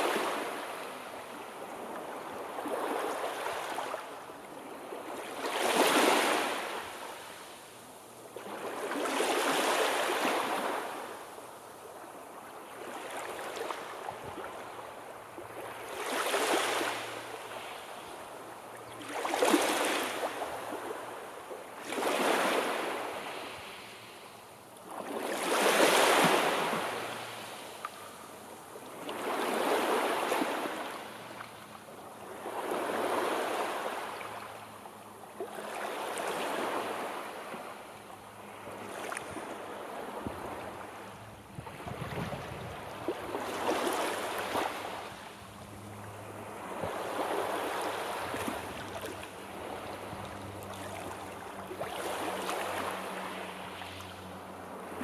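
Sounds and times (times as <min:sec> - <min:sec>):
sea waves breaking: 0:00.0 - 0:07.6, 0:08.4 - 0:11.2, 0:12.6 - 0:24.2, 0:24.8 - 0:55.0.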